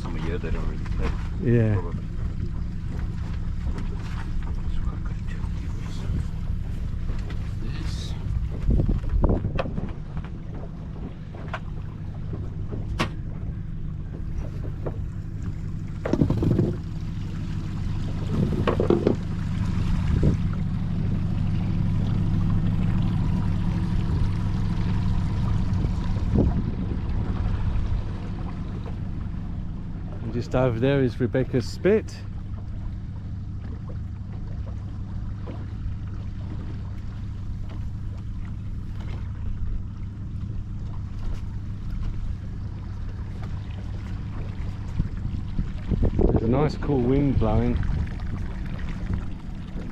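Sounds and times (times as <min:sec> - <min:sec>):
boat engine humming: 0:00.0 - 0:49.9.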